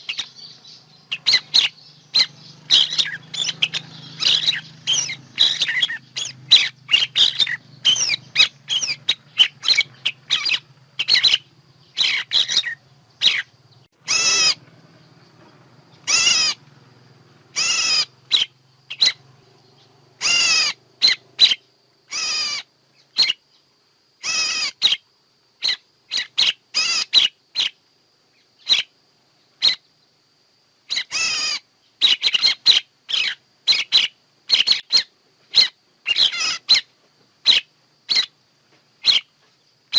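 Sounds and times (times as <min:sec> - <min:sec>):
songbird chirps: 0:00.0 - 0:39.9.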